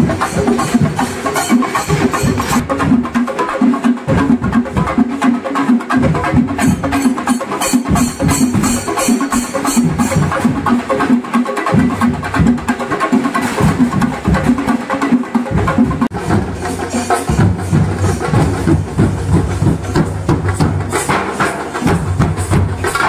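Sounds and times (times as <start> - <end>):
hand cymbals: 0.0 - 2.9, 6.5 - 12.0, 12.9 - 23.0
drums beaten with sticks: 0.0 - 23.0.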